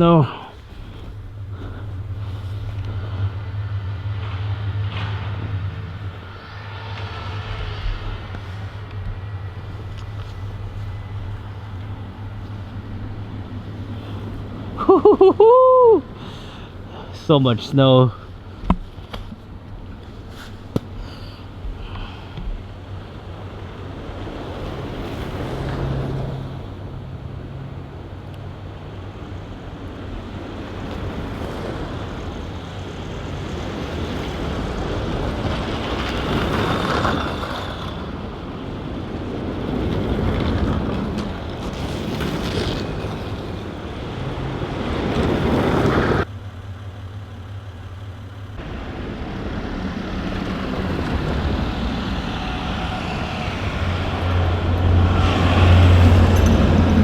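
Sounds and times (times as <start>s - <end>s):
car engine hum: 0.0s - 57.0s
tyre and road noise: 0.0s - 57.0s.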